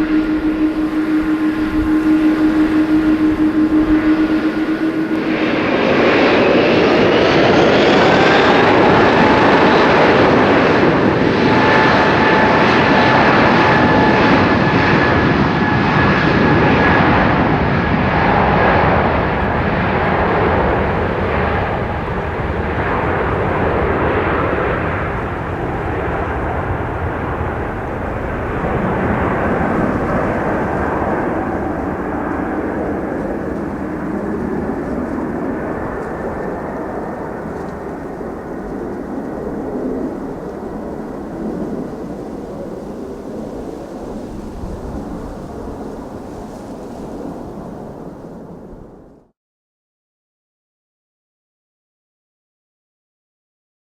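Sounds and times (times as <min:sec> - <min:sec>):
jet engines spooling up: 0:00.0 - 0:48.2.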